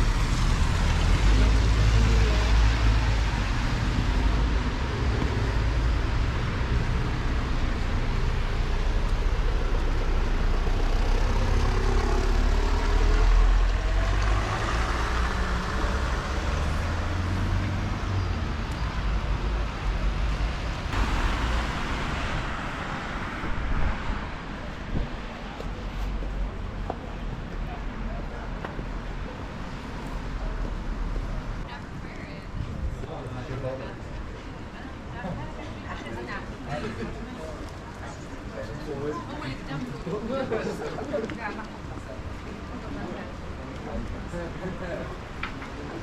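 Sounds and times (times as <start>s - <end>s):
street traffic passing: 0.0s - 46.0s.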